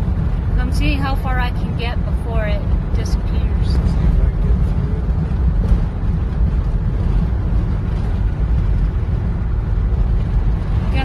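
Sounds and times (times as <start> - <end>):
car interior low rumble: 0.0 - 11.0.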